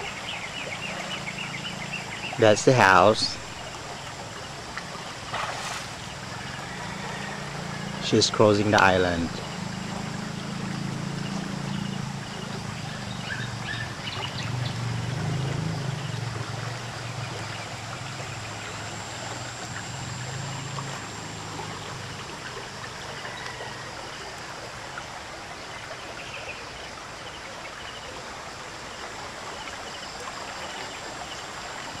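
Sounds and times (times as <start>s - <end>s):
river flowing fast: 0.0s - 32.0s.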